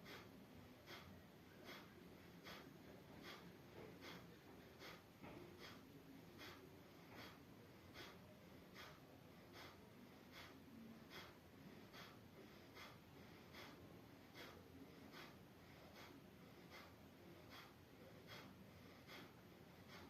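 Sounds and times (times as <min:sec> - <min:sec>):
faint rhythmic breathing: 0:00.0 - 0:20.0.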